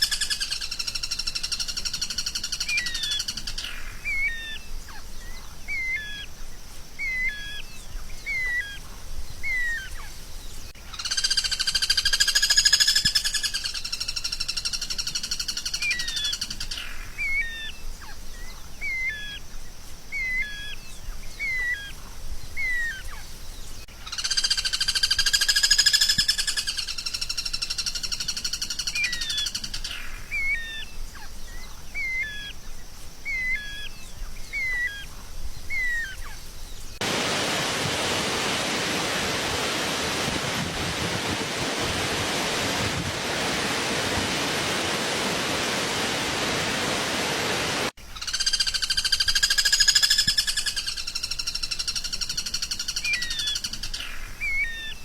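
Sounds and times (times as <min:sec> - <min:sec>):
steady hiss: 0:00.0 - 0:53.0
songbird chirps: 0:00.0 - 0:55.0.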